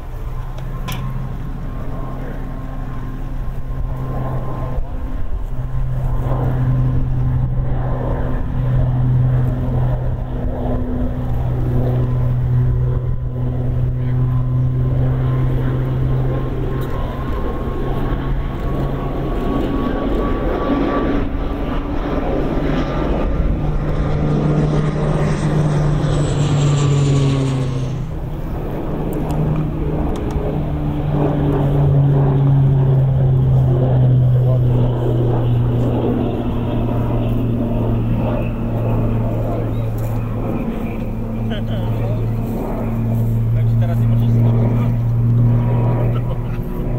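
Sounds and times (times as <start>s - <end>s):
high turbine whine: 0.0s - 46.9s
turboprop aircraft drone: 0.0s - 46.9s.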